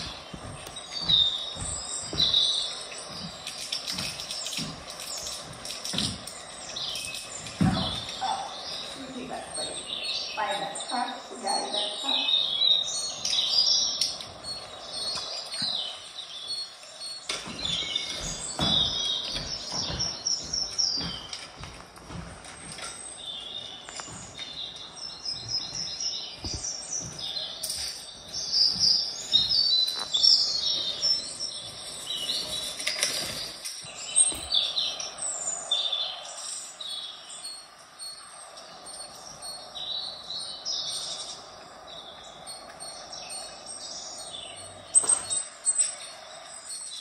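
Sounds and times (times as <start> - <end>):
small birds chirping over speaker: 0.0 - 47.0.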